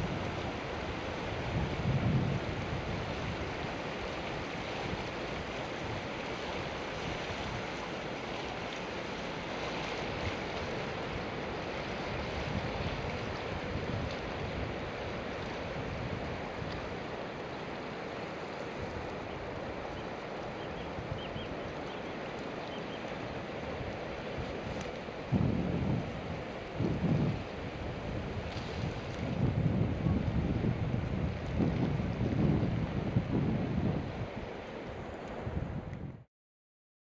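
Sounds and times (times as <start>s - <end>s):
turbulent water rushing: 0.0s - 35.9s
wind rumbling on microphone: 0.0s - 36.3s.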